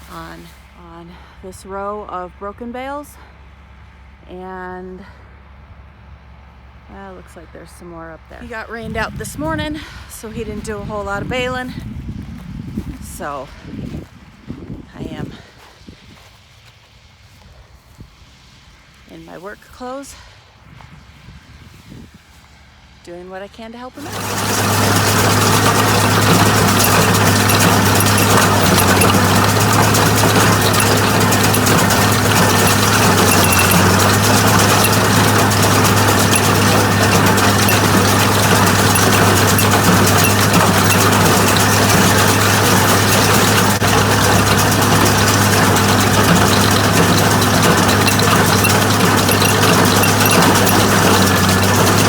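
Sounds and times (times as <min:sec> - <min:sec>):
tractor engine running: 0:00.0 - 0:15.7, 0:23.1 - 0:52.0.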